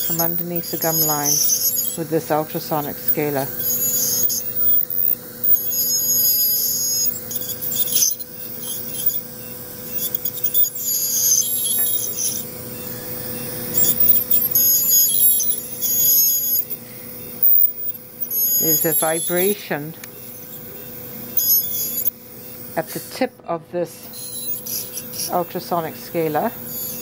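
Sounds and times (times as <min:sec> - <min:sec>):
dental scaler high-pitched whine: 0:00.0 - 0:27.0.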